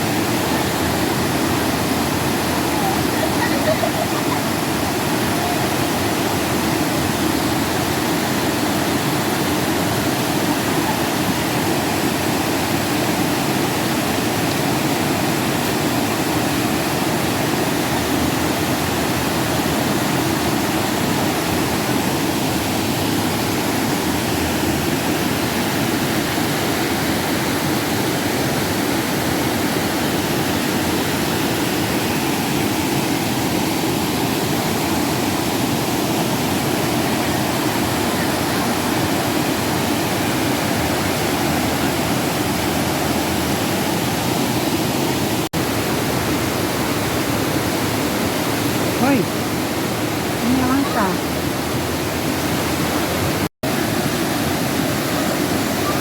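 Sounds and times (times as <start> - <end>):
rushing river water: 0.0 - 56.0.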